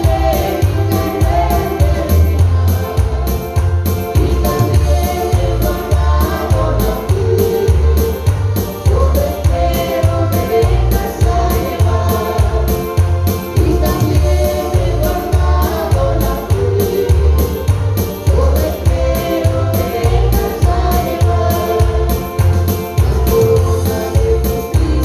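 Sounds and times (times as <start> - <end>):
bass and drum beat: 0.0 - 25.0
praise music with singing: 0.0 - 25.0.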